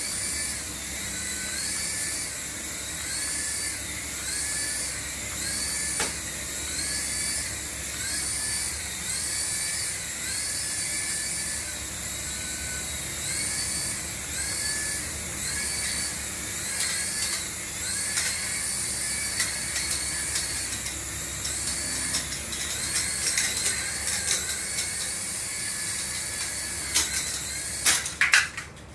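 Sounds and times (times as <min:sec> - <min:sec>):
toy motor whining: 0:00.0 - 0:28.6.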